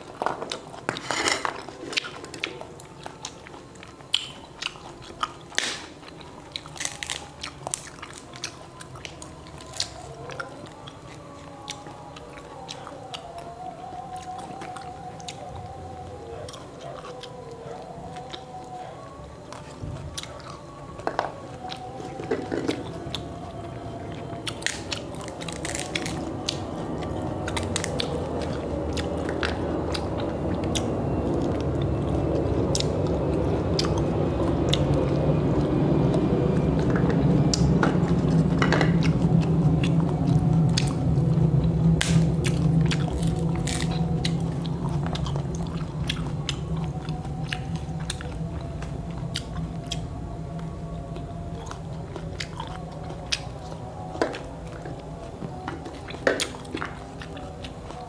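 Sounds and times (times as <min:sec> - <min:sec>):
fruit rinds cracking and tearing: 0:00.0 - 0:15.5, 0:20.6 - 0:58.0
low hum: 0:00.0 - 0:58.0
wet chewing: 0:00.0 - 0:58.0.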